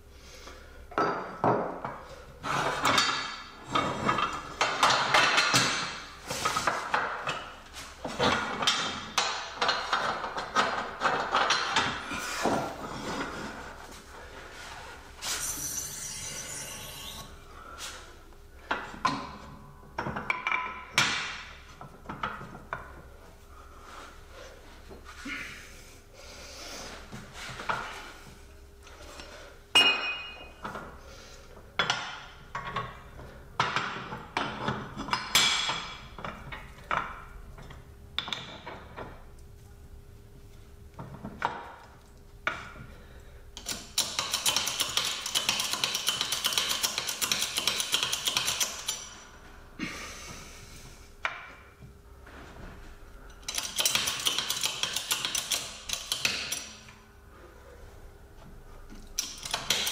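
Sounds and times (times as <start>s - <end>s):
faint steady hum: 0.0s - 59.8s.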